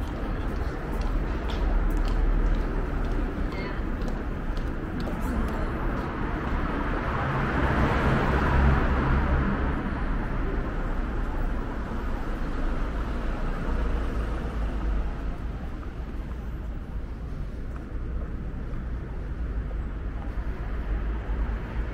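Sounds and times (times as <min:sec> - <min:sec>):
traffic rumble: 0:00.0 - 0:21.9.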